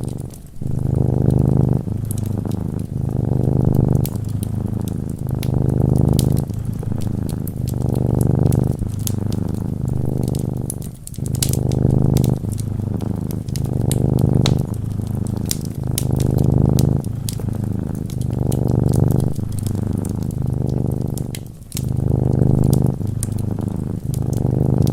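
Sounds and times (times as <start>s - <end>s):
cat purring: 0.0s - 24.9s
wood fire crackling: 0.0s - 24.9s.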